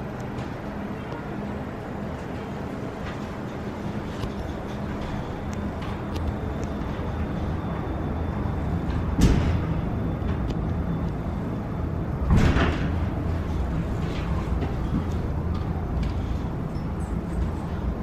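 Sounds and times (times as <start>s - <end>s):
railway car rumbling: 0.0s - 18.0s.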